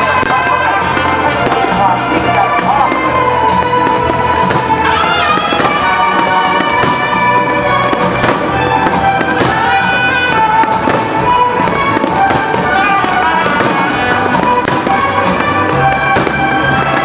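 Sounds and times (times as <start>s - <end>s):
fireworks bangs: 0.0s - 17.0s
loud music: 0.0s - 17.0s.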